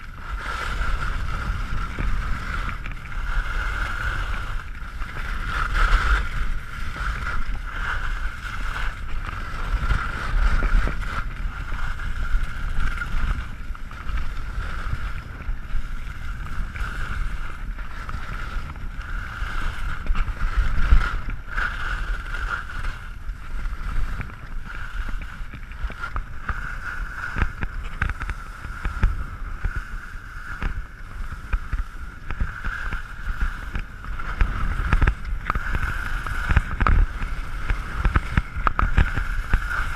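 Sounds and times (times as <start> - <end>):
wind buffeting microphone: 0.0 - 39.9
skis hissing over snow: 0.1 - 39.9.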